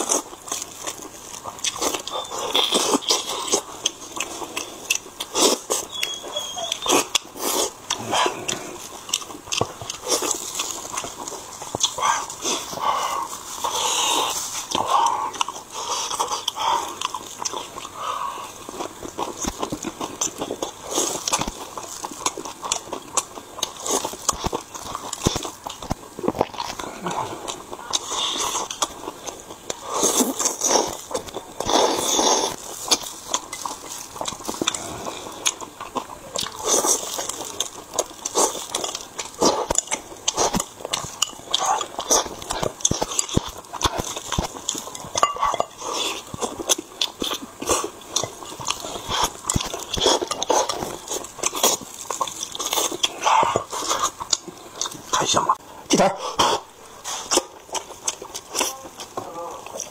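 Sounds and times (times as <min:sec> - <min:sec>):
chewing: 0:00.0 - 0:59.9
mouth clicks and smacking: 0:00.0 - 0:59.9.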